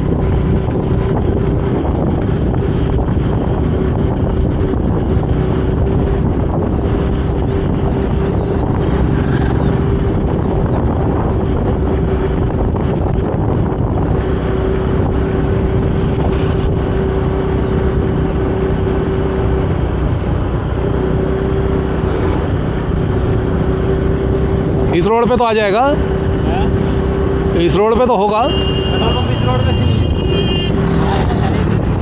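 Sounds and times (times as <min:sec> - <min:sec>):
wind buffeting microphone: 0:00.0 - 0:27.7, 0:28.9 - 0:32.0
traffic rumble: 0:00.0 - 0:32.0.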